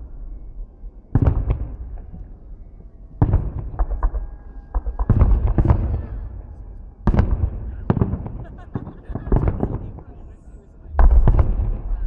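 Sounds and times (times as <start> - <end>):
fireworks crackling and rumbling: 0.0 - 12.0
fireworks bangs: 1.1 - 2.2, 3.2 - 12.0.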